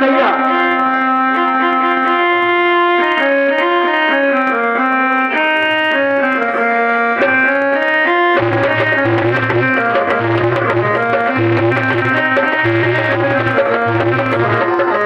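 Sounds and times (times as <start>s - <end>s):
keyboard melody of held notes: 0.0s - 15.0s.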